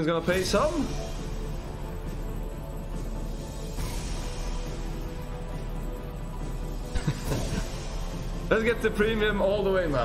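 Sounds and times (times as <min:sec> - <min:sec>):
slot machine music: 0:00.0 - 0:10.0.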